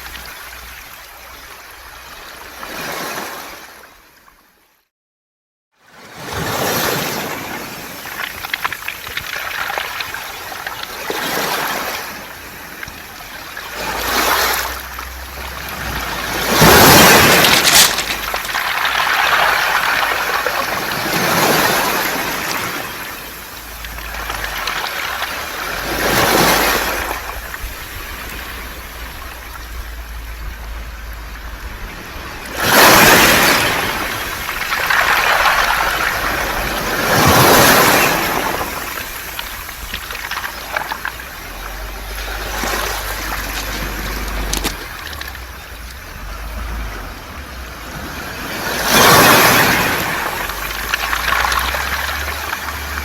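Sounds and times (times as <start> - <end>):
waves breaking on pebbles: 0.0 - 3.8, 6.1 - 53.0
water trickling through stones: 7.6 - 31.6, 32.6 - 47.7, 48.8 - 53.0.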